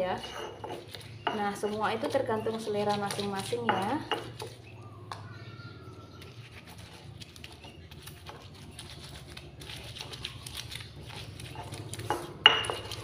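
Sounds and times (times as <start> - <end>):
stone pestle grinding in mortar: 0.0 - 4.8, 5.9 - 13.0.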